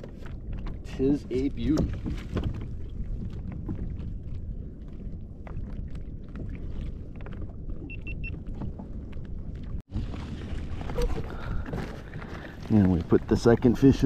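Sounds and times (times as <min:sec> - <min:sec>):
kayak low rumble on water: 0:00.0 - 0:14.0.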